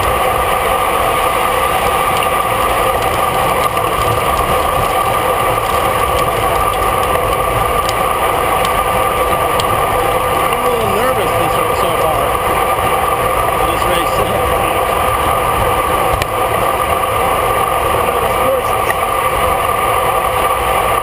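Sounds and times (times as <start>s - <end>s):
bicycle road noise: 0.0s - 21.0s
wind rush: 0.0s - 21.0s.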